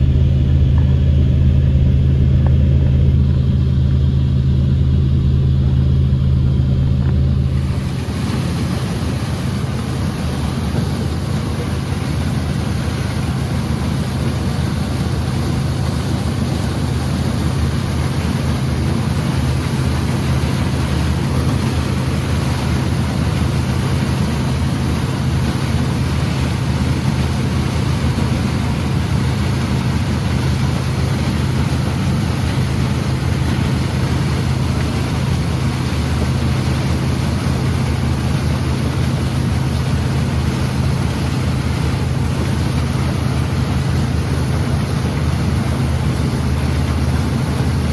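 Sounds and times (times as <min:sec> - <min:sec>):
combine harvester engine drone: 0:00.0 - 0:47.9.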